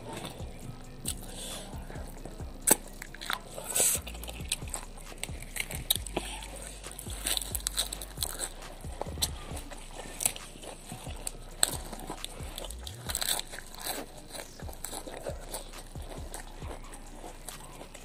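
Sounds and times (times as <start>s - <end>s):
crunching lettuce leaves: 0.0s - 18.0s.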